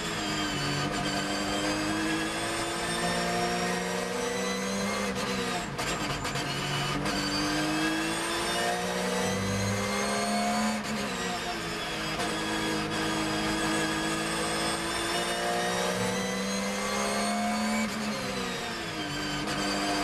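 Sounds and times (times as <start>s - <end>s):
race car engine revving: 0.0s - 11.2s, 11.8s - 18.7s.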